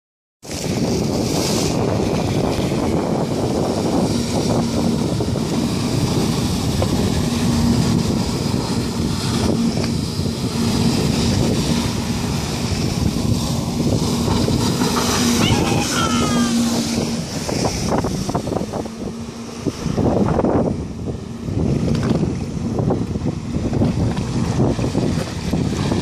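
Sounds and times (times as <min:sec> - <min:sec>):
rushing water: 0:00.4 - 0:26.0
watercraft engine running: 0:00.4 - 0:26.0
wind buffeting microphone: 0:00.4 - 0:26.0.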